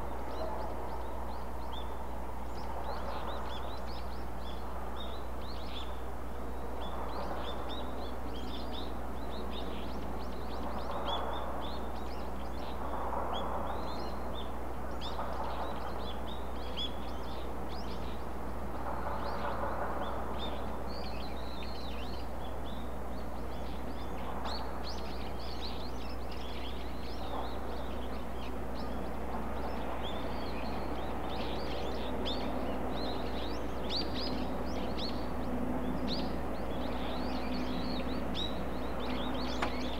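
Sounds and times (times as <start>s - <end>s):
low outdoor rumble: 0.0s - 39.9s
small birds chirping: 0.0s - 39.9s.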